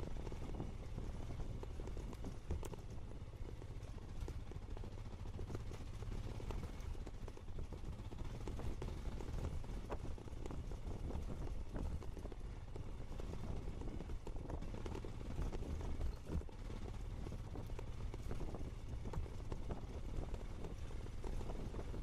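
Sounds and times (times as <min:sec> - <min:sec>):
knocks and rattles over bumps: 0:00.0 - 0:22.0
motorcycle engine rumble: 0:00.0 - 0:22.0.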